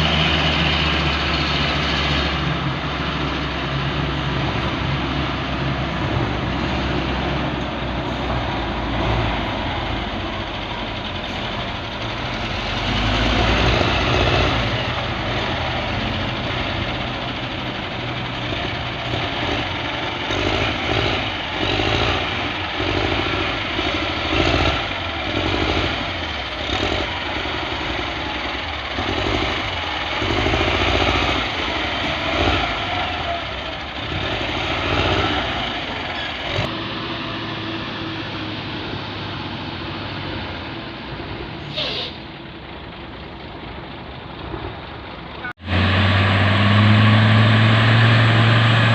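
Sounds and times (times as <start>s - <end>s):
vehicle engine revving: 0.0s - 10.4s, 12.0s - 40.5s, 45.4s - 48.9s.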